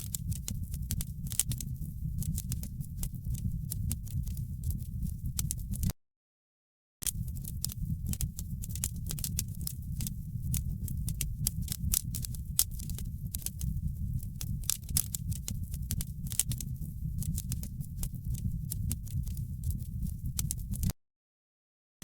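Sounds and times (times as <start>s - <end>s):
fire pops and snaps: 0.0s - 5.9s, 7.0s - 20.9s
low rumble of flames: 0.0s - 5.9s, 7.0s - 20.9s.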